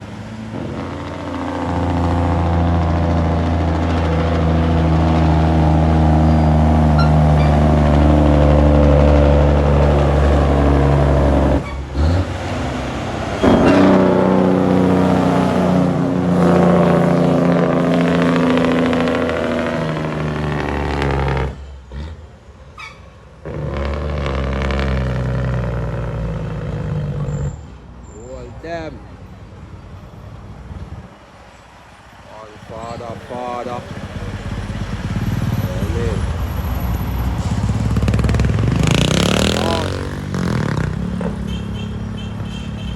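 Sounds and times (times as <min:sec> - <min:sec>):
diesel truck engine under load: 0:00.0 - 0:28.7, 0:31.8 - 0:42.9.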